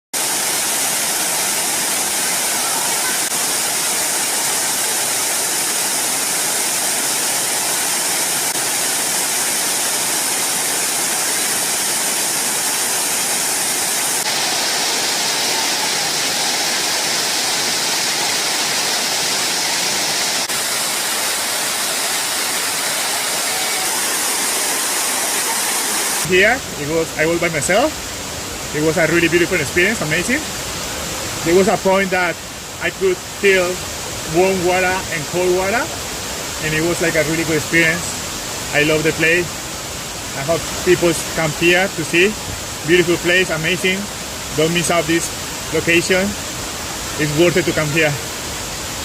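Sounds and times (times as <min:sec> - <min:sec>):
waterfall rushing: 0:00.2 - 0:49.0.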